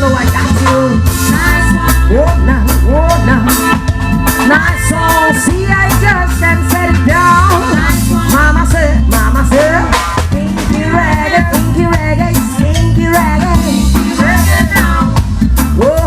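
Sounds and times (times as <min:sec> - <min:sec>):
live band playing ska music: 0:00.0 - 0:16.0.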